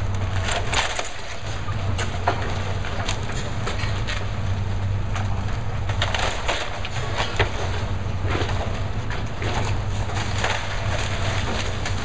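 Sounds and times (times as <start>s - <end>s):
cracks and clatters of debris: 0.0s - 12.0s
diesel engine running: 0.0s - 12.0s
grapple crunching wood: 0.0s - 12.0s.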